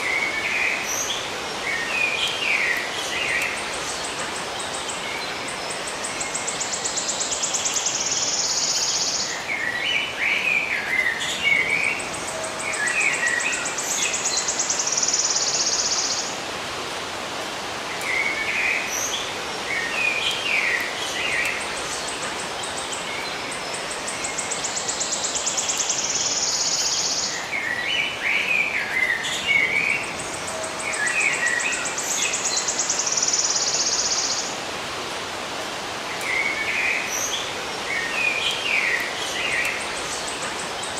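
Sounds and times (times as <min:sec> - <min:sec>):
steady hiss: 0:00.0 - 0:40.9.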